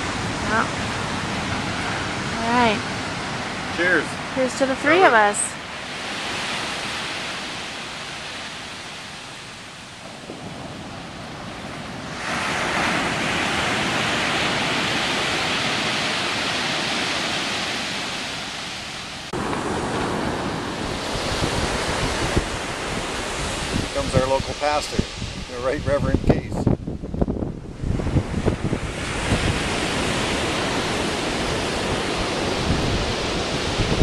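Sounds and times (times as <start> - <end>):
waves breaking on beach: 0.0 - 34.0
wind on microphone: 0.0 - 34.0.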